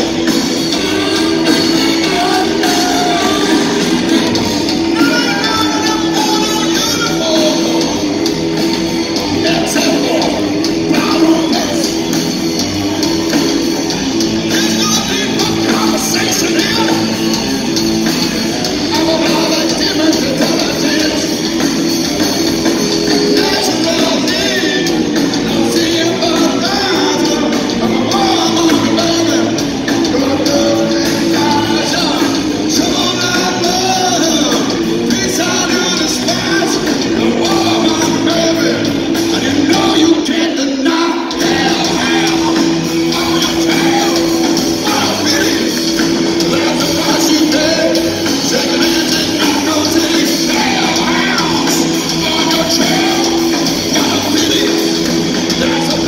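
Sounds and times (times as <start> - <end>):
hard rock band playing live: 0.0 - 56.0
person singing lead vocal: 0.0 - 56.0.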